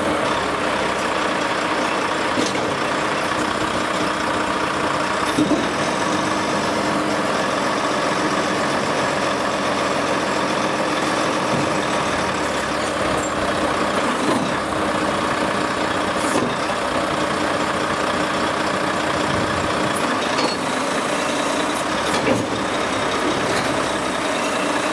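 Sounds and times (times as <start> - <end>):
heavy machinery humming: 0.0 - 24.9.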